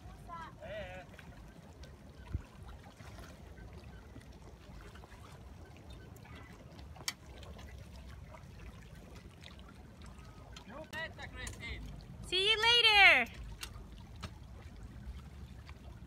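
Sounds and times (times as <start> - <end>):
water trickling and lapping: 0.0 - 16.0.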